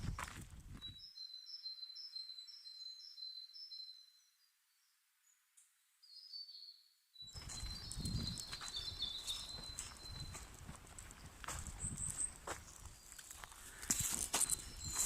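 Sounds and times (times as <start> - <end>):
small bird singing: 0.0 - 15.0.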